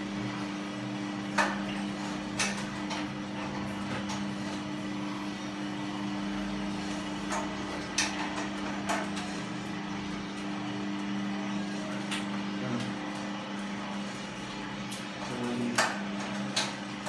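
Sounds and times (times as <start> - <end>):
coffee roaster motor hum: 0.0 - 17.0.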